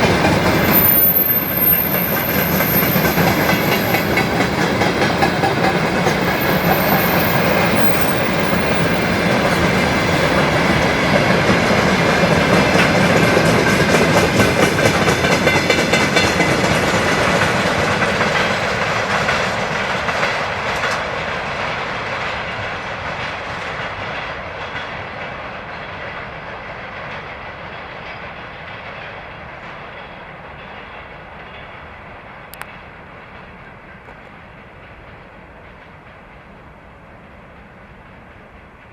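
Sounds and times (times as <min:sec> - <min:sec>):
freight train wheels clickety-clack: 0:00.0 - 0:38.9.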